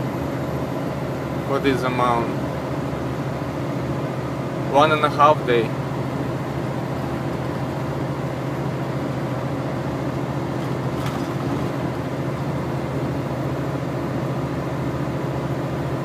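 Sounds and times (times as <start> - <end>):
road noise: 0.0 - 15.9
truck diesel engine under load: 0.0 - 16.0.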